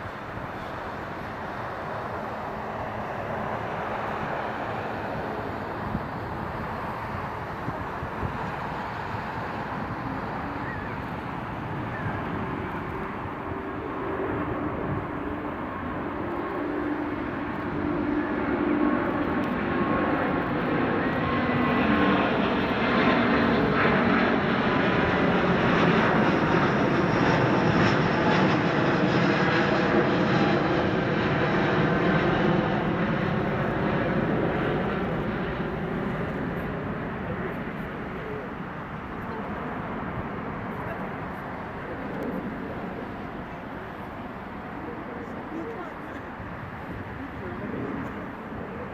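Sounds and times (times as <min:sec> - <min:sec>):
jet plane flying past: 0:00.0 - 0:48.9.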